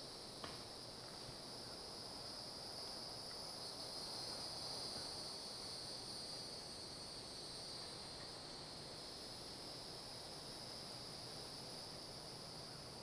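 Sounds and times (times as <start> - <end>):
insects chirping chorus: 0.0 - 13.0.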